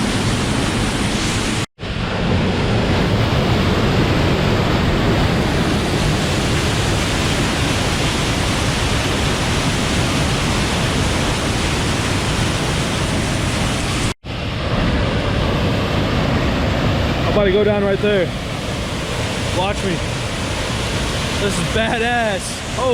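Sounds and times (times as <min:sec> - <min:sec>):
waterfall and creek rushing: 0:00.0 - 0:01.7, 0:02.8 - 0:14.2, 0:14.8 - 0:22.9.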